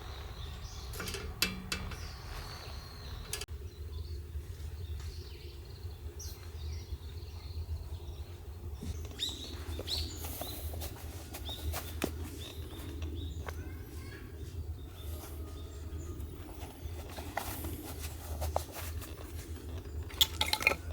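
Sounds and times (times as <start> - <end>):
steady low rumble: 0.0 - 20.2
small birds chirping: 0.0 - 20.9.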